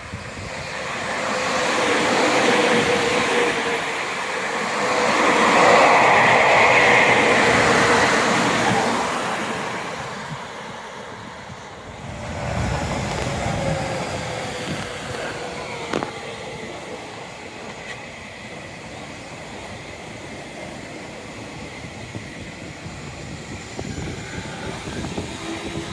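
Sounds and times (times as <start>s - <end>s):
electric train passing: 0.0s - 25.9s.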